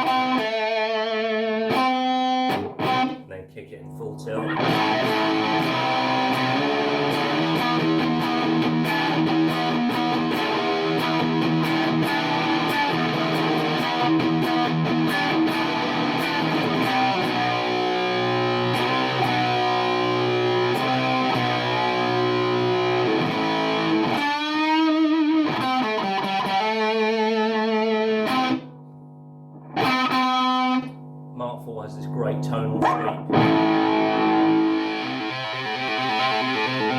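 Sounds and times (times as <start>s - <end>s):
distorted electric guitar: 0.0s - 36.9s.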